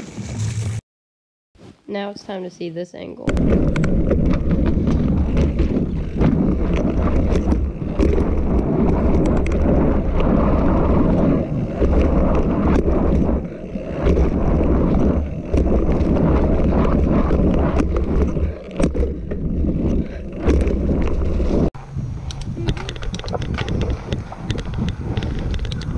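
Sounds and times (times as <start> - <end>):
bike knocking and rattling: 3.3 - 25.9
bike tyres rolling: 3.3 - 25.9
wind rushing over microphone: 3.3 - 25.9.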